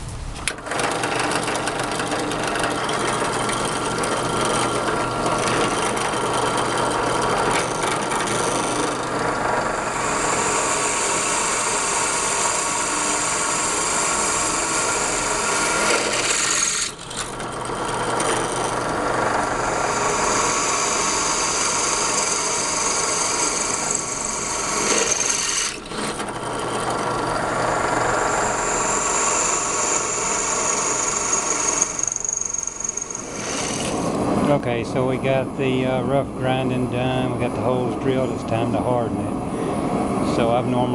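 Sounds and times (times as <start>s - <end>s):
belt sander grinding steel: 0.6s - 35.1s.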